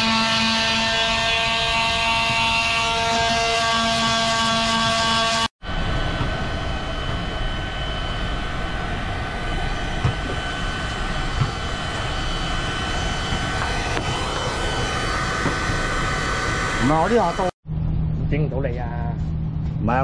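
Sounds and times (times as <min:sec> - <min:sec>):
heat gun blower whine: 0:00.0 - 0:17.6.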